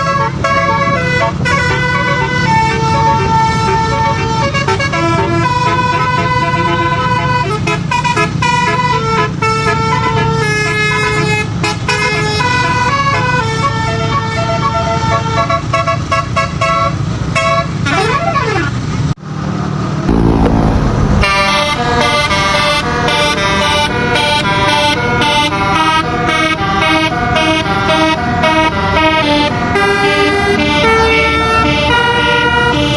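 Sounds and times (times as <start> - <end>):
multi-note bus horn tune: 0.0 - 18.6, 20.1 - 32.9
bus engine rumble: 0.0 - 32.9.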